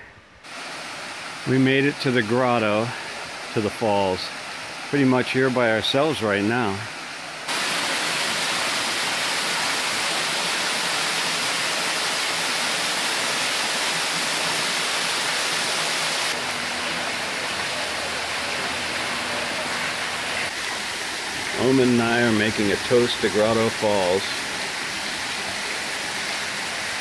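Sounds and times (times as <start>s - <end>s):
waterfall splashing into pool: 0.4s - 27.0s.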